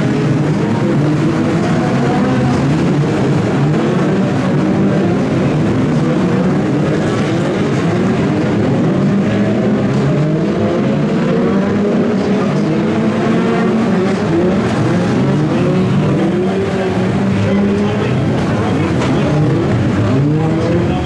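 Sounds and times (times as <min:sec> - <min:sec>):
racing car engines: 0:00.0 - 0:21.0.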